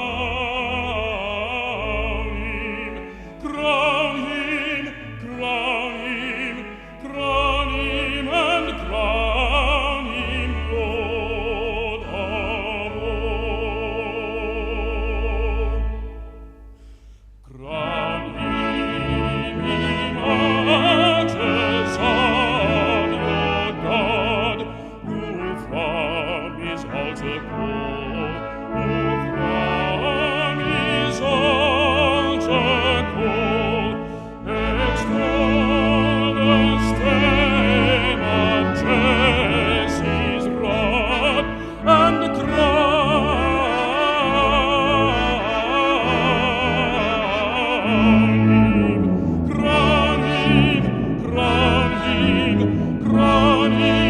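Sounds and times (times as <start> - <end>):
man singing a hymn: 0.0 - 16.2, 17.5 - 54.0
brass ensemble chords: 0.0 - 54.0.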